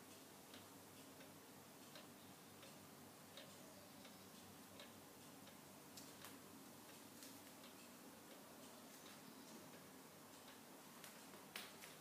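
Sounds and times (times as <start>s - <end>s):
pendulum clock ticking: 0.0s - 12.0s.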